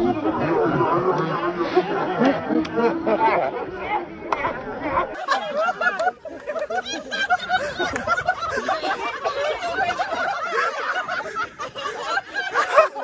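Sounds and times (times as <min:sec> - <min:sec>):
people laughing and chattering: 0:00.0 - 0:13.0.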